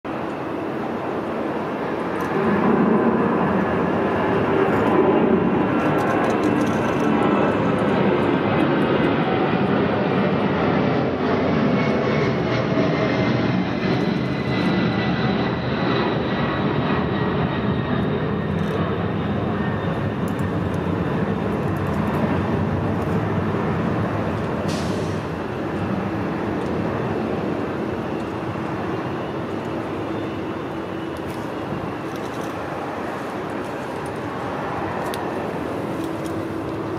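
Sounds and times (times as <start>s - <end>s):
faint engine whine: 0.1s - 36.9s
jet engines roaring at takeoff: 0.1s - 36.9s.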